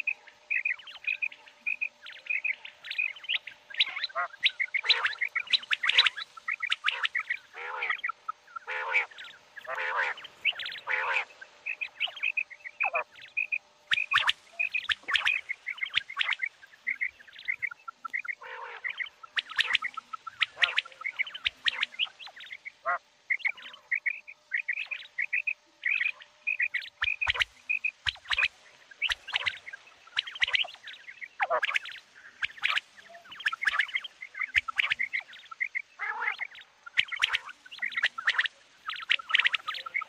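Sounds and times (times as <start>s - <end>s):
quails chirping: 0.0s - 40.0s.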